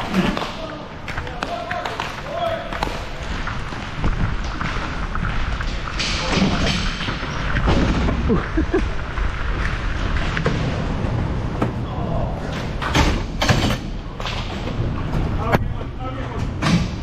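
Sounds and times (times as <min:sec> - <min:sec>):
rink background noise: 0:00.0 - 0:17.0.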